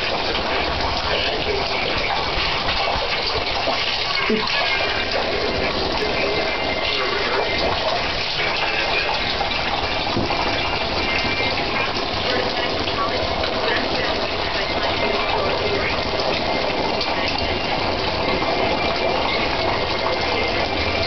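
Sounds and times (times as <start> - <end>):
shower water spraying: 0.0 - 21.0.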